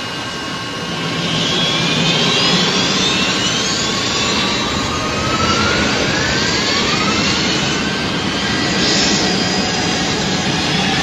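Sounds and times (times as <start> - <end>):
jet engines running up: 0.0 - 11.0.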